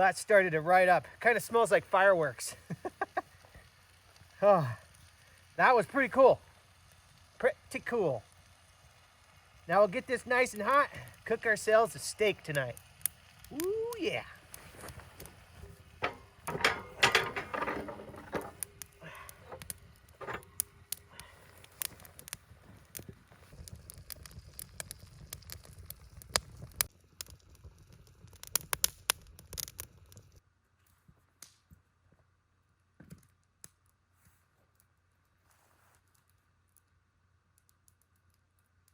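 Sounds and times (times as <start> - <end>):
wood fire crackling and popping: 0.0 - 31.8, 33.0 - 38.9.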